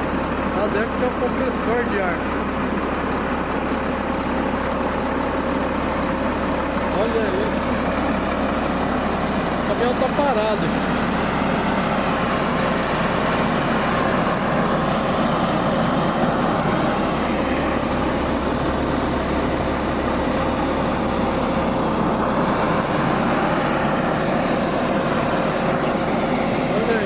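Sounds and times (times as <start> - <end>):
constant mechanical whine: 0.0 - 27.0
truck engine rumbling: 0.0 - 27.0.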